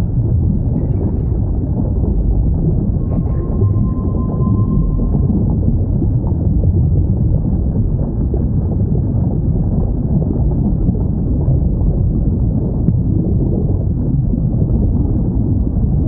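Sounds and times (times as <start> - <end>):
underwater ocean rumble: 0.0 - 16.0.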